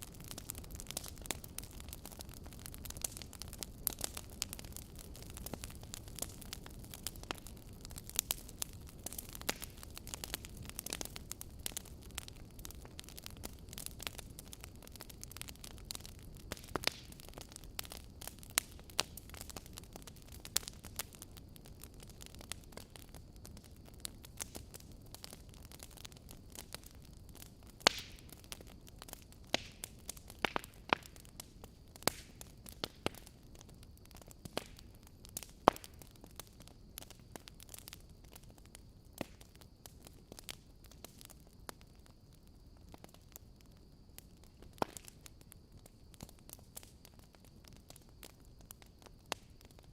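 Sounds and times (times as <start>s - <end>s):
fire burning: 0.0s - 49.9s
logs crackling and popping: 0.0s - 49.9s.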